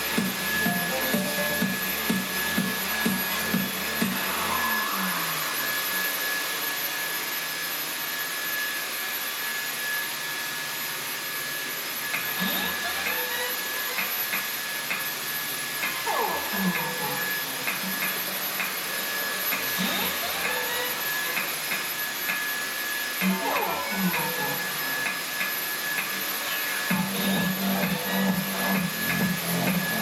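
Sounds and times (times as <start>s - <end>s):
vacuum cleaner motor whine: 0.0s - 30.0s.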